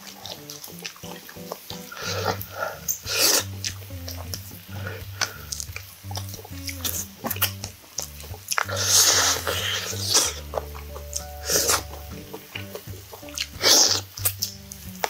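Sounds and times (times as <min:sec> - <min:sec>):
background music with bass: 0:00.0 - 0:15.0
person chewing and lip smacking: 0:00.0 - 0:15.0.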